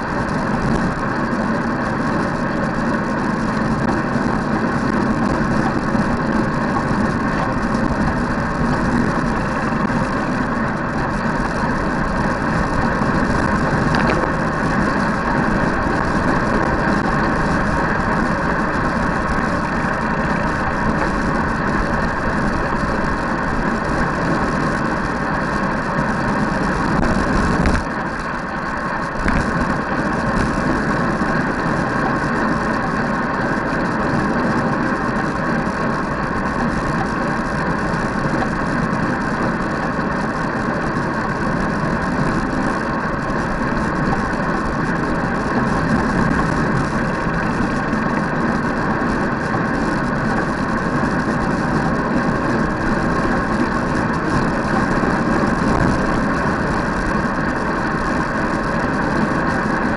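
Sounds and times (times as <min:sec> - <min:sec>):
road noise: 0:00.0 - 0:59.9
wind rush: 0:00.0 - 0:59.9.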